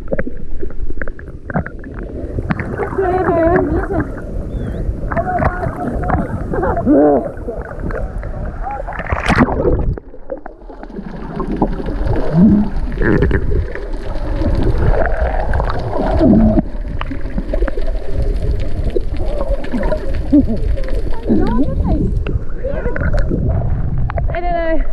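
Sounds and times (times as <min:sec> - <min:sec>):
bubbling water: 0:00.0 - 0:24.3
deep rumble: 0:00.0 - 0:24.9
water sloshing and gurgling: 0:00.0 - 0:24.9.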